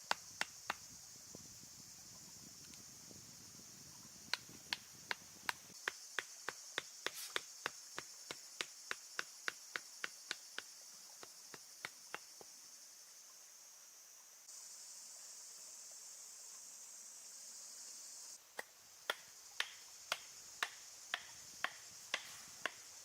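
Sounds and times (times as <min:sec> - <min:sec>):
high insect hiss: 0:00.0 - 0:23.0.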